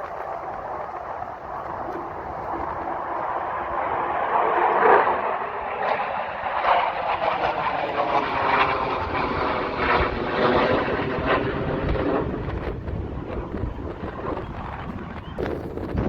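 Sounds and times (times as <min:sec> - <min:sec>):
jet engine flying by: 0:00.0 - 0:16.0.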